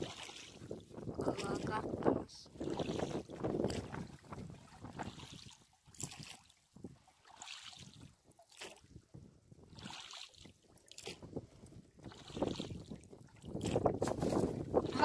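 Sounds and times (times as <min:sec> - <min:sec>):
water swishing and dripping: 0:00.0 - 0:15.0.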